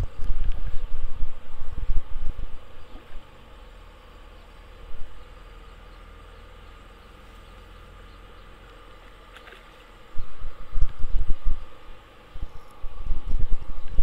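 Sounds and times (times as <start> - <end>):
faint outdoor background noise: 0.0 - 14.0
low rumbling buffeting on microphone: 0.0 - 14.0.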